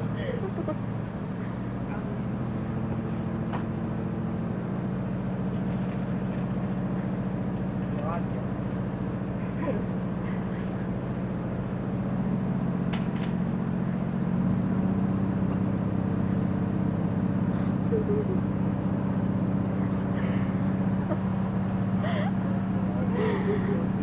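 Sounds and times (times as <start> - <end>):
train running hum: 0.0 - 24.0.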